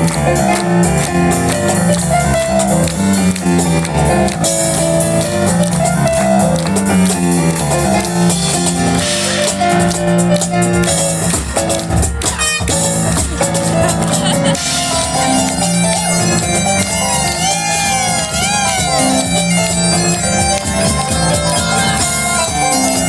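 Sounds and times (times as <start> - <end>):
piano notes: 0.0 - 23.0.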